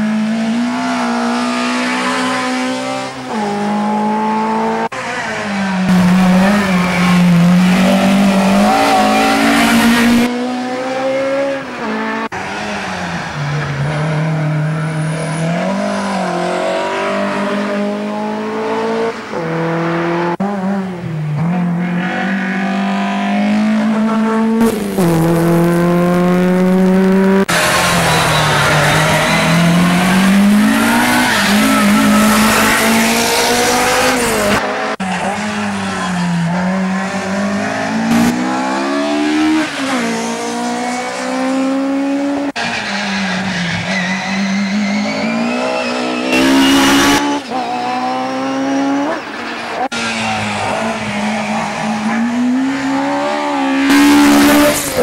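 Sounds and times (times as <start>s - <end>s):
racing car engines at full throttle: 0.0s - 55.0s.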